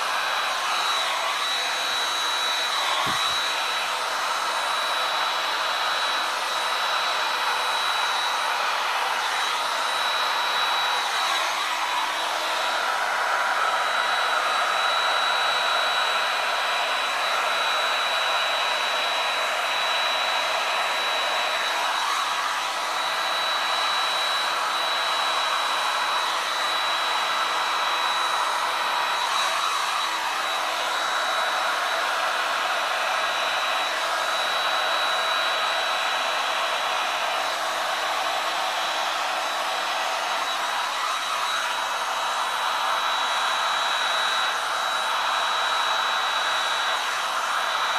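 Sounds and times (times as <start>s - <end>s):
heat gun fan blowing air: 0.0s - 47.9s.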